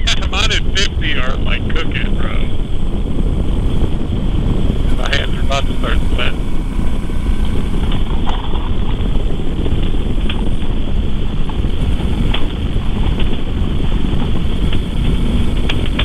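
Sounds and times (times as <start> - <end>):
motorcycle engine: 0.0 - 16.0
road noise: 0.0 - 16.0
wind rushing over microphone: 0.0 - 16.0.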